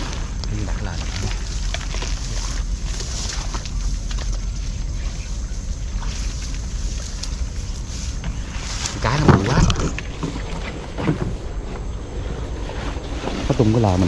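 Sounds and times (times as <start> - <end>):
grass and undergrowth rustling: 0.0 - 14.0
wind rumble on microphone: 0.0 - 14.0.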